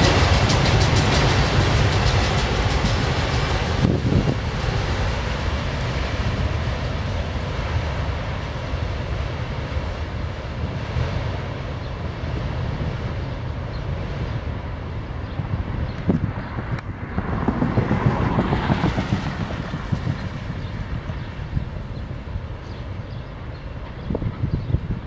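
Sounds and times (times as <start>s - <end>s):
freight train cars rolling on rails: 0.0s - 25.0s.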